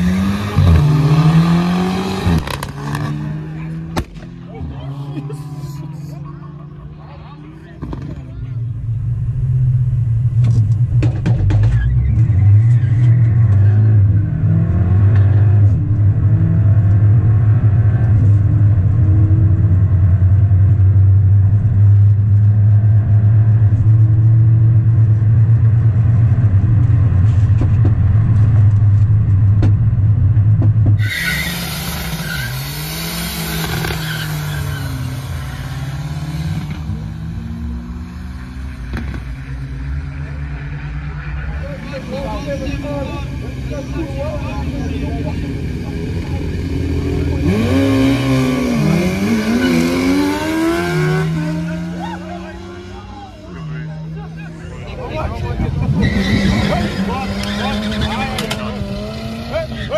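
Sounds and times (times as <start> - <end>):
car engine drone in cabin: 0.0 - 59.9
distant car engine: 0.0 - 59.9.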